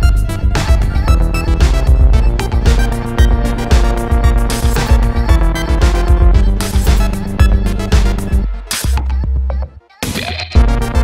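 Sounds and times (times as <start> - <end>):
electronic music with drum beat: 0.0 - 11.0.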